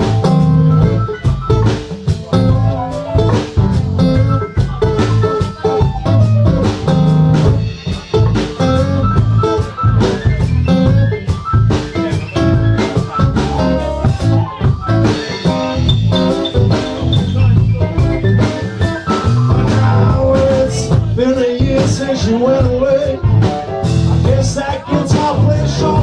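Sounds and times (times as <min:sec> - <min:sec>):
acoustic guitars strummed: 0:00.0 - 0:26.0
bass: 0:00.0 - 0:26.0
drum kit: 0:00.0 - 0:26.0
keyboard: 0:00.0 - 0:26.0.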